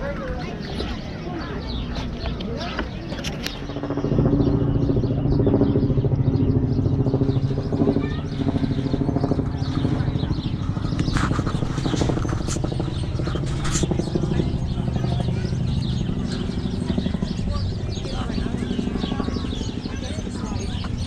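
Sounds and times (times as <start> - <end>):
engine running steadily: 2.1 - 21.0.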